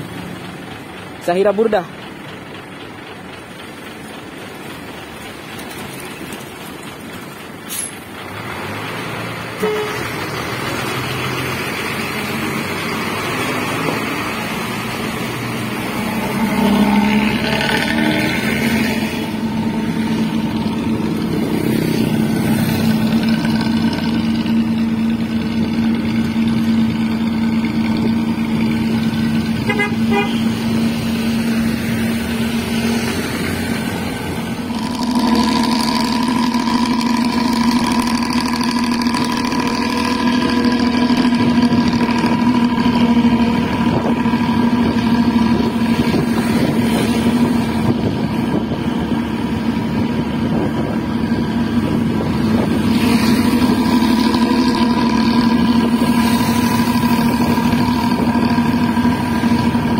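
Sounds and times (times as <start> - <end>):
bus engine with raspy exhaust: 0.0 - 59.9.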